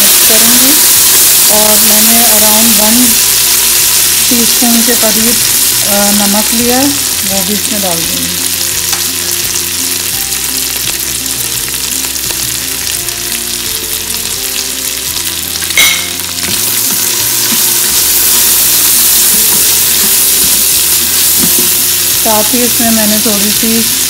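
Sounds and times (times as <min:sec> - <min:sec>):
chickpeas sizzling in oil: 0:00.0 - 0:24.0.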